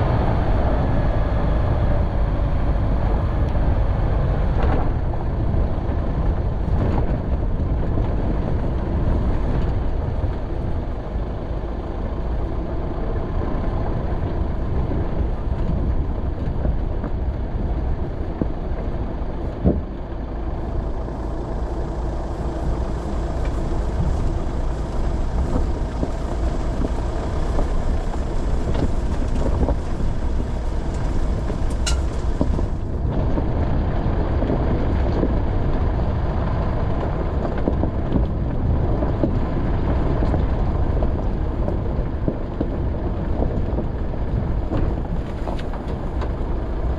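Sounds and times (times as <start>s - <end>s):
off-road vehicle engine and road noise: 0.0s - 46.9s.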